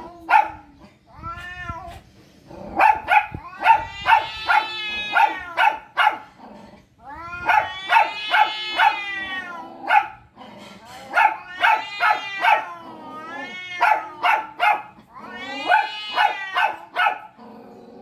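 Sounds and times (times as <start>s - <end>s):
cats yowling: 0.0s - 2.0s, 2.7s - 6.0s, 7.0s - 10.0s, 11.0s - 18.0s.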